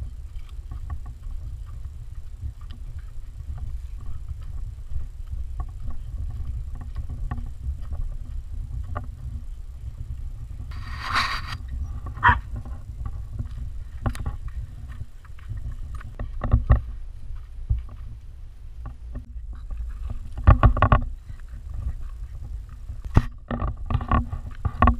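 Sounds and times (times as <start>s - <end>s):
camera housing jostling rumble: 0.0s - 24.9s.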